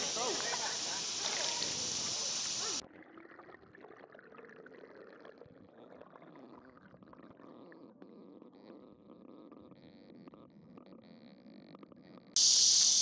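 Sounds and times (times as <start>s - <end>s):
open-air sound: 0.0s - 9.9s, 12.4s - 13.0s.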